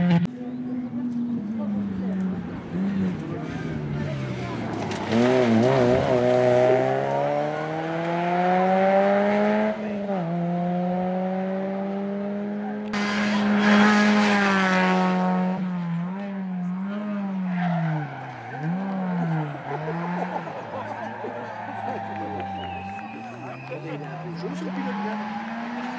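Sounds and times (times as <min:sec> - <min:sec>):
rally car engine accelerating: 0:00.0 - 0:25.9.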